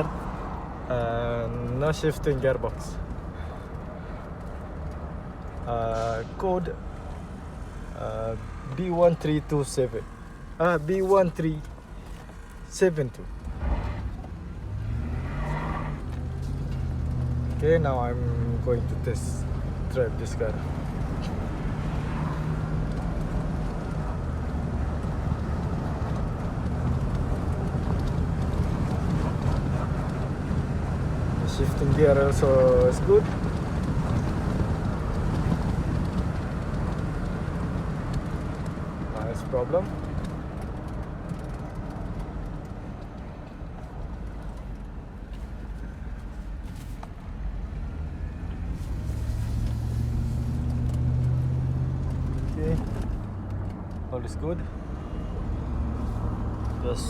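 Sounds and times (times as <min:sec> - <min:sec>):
engine and road drone: 0:00.0 - 0:57.0.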